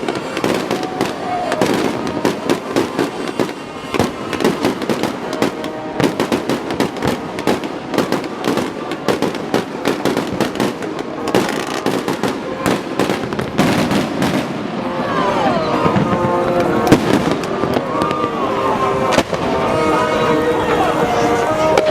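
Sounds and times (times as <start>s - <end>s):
fireworks crackling and banging: 0.0s - 21.9s.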